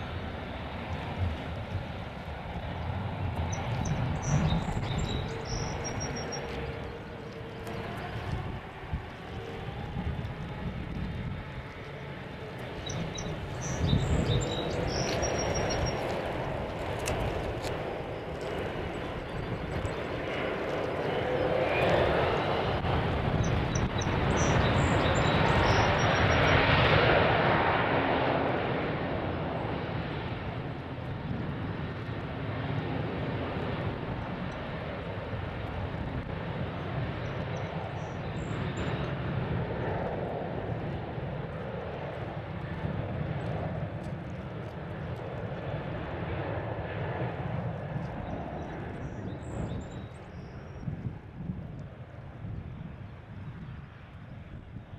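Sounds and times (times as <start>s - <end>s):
jet airliner engine noise: 0.0s - 54.9s.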